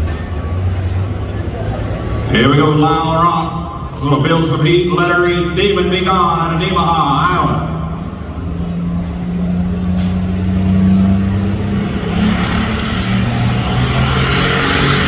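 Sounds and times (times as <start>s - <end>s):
tractor engine at full throttle: 0.0s - 15.0s.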